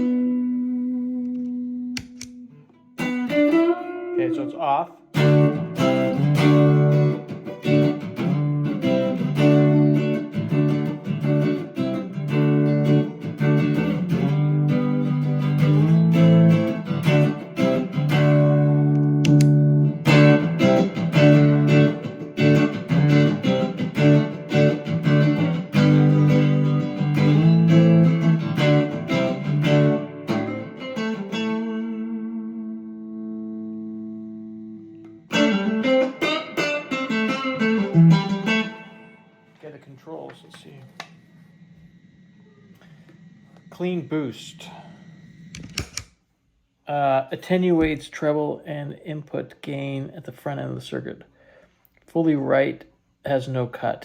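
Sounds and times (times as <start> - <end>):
clean electric guitar: 0.0 - 45.8.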